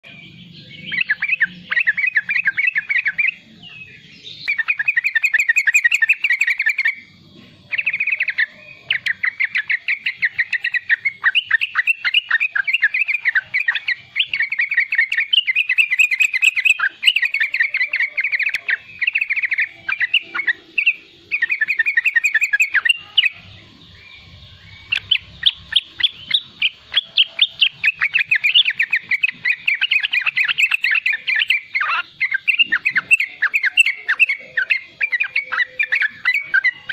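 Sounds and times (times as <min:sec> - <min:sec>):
bulbul trilled chatter: 0:00.0 - 0:36.9.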